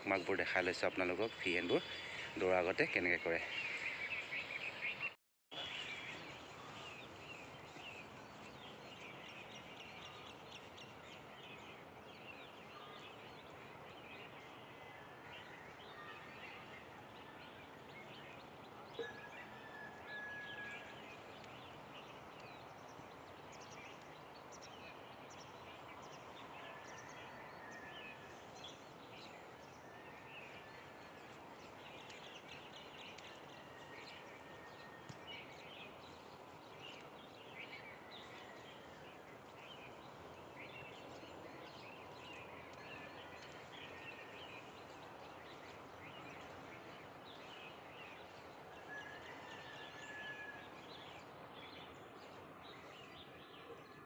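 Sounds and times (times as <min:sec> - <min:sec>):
small birds chirping: 0:00.0 - 0:14.7, 0:21.1 - 0:50.2.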